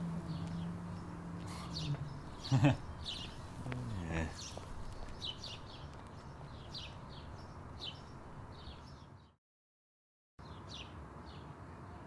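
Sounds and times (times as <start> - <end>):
faint outdoor background: 0.0 - 9.4, 10.4 - 12.0
small birds chirping: 0.0 - 9.4, 10.4 - 12.0.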